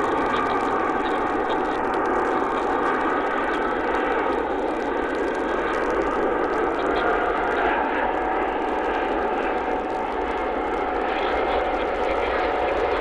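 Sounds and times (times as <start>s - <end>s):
jet engine rumble with whine: 0.0s - 13.0s.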